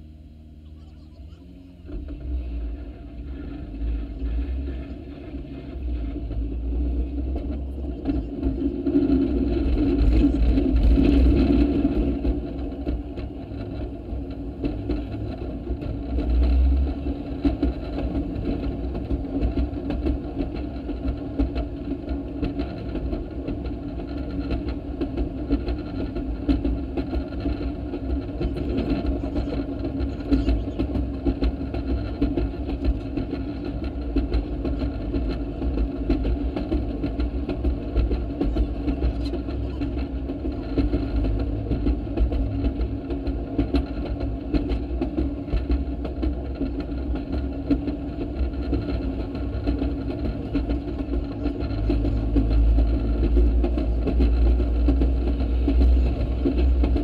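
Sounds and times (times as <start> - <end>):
small rail vehicle engine and wheels: 0.0 - 57.0.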